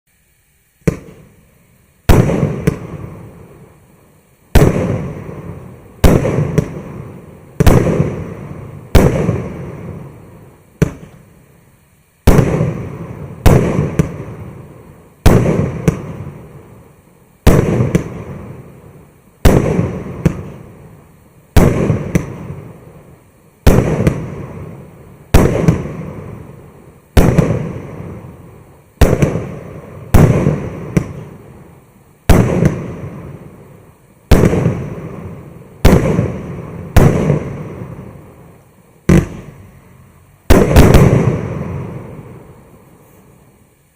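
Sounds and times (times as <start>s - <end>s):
fireworks bangs with crackle: 0.7s - 11.5s, 12.1s - 43.9s.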